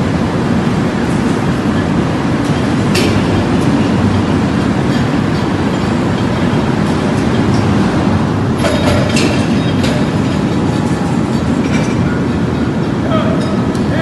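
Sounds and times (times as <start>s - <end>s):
heavy machinery rumbling: 0.0s - 14.0s.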